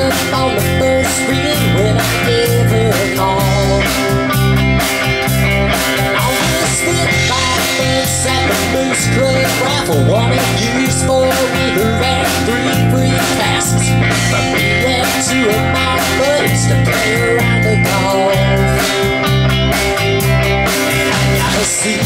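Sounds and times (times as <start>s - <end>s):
drums: 0.0s - 22.0s
electric guitar lead: 0.0s - 22.0s
live country rock band: 0.0s - 22.0s.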